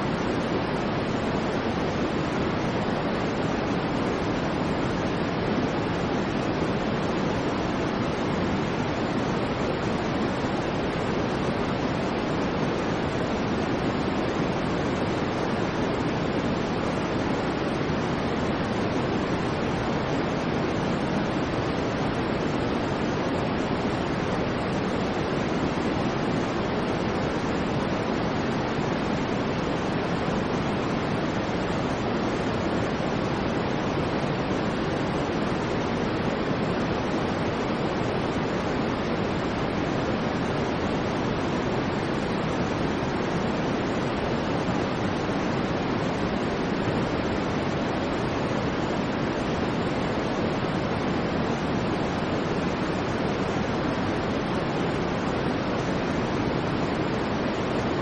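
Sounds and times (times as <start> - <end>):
steady white noise: 0.0 - 58.0.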